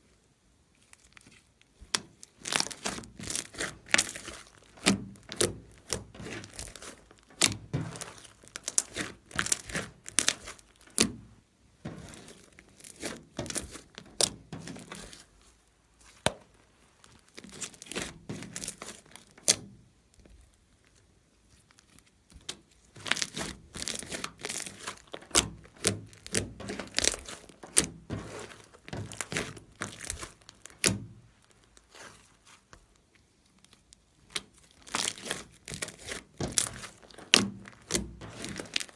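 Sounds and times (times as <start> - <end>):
slime squished by hand: 0.8 - 11.3, 11.9 - 19.6, 20.3 - 38.9.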